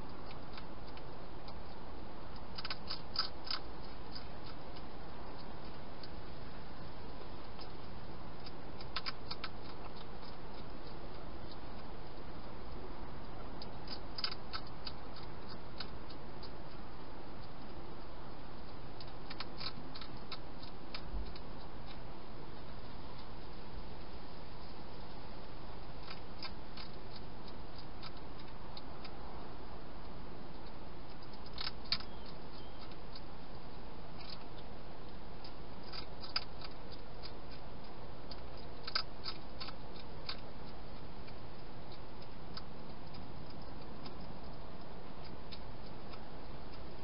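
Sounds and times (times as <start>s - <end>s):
hedgehog crunching dry food: 0.0s - 47.0s.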